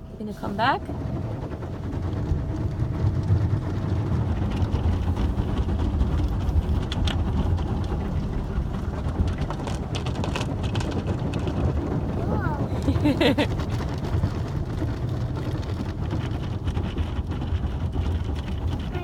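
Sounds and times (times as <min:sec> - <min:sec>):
car wash machinery rumbling: 0:00.0 - 0:19.0.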